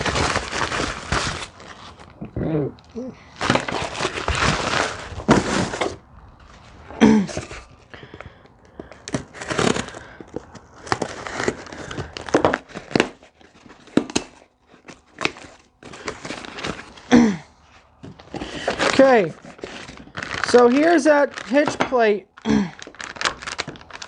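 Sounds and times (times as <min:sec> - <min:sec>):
packing material crinkling: 0:00.0 - 0:24.0.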